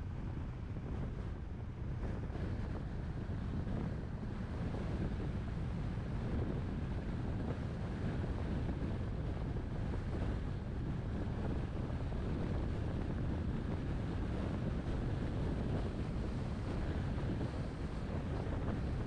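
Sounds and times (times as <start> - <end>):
car road and wind rumble: 0.0 - 19.0
wind buffeting microphone: 0.0 - 19.0.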